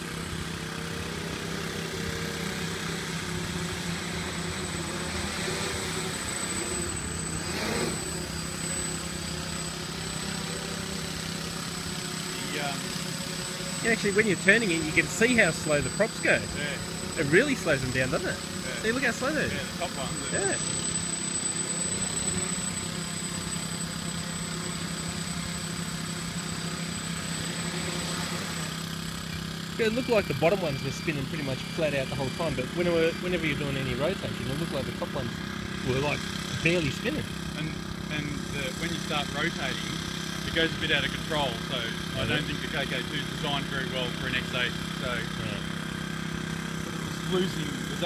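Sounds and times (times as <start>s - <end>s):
drone motors buzzing: 0.0s - 48.0s.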